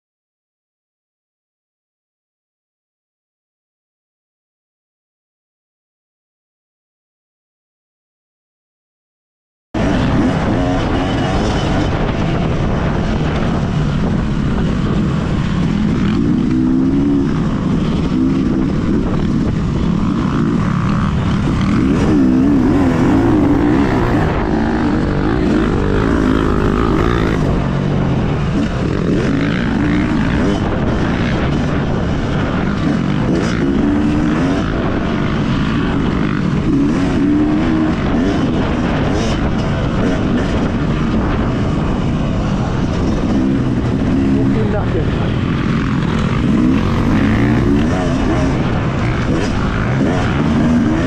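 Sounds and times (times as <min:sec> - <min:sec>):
motocross bike engine revving: 0:09.8 - 0:51.0
wind rumble: 0:09.8 - 0:51.0.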